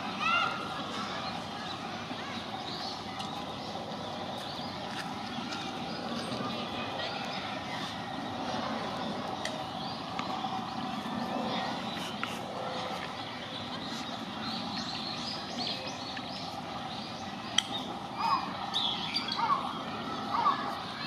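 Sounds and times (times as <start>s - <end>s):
birds chirping high: 0.0s - 21.0s
steady background hum: 0.0s - 21.0s.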